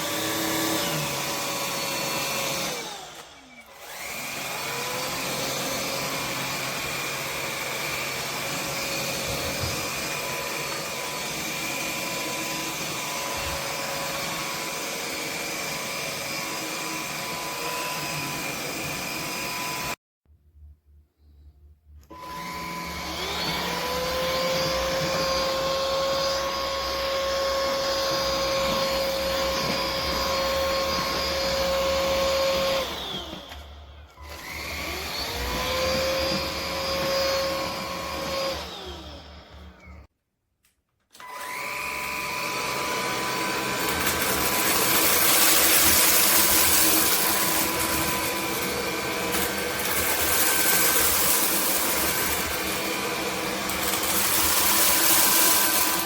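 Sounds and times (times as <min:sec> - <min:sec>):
stick vacuum motor whine: 0:00.0 - 0:20.0, 0:22.0 - 0:40.1, 0:41.2 - 0:56.0.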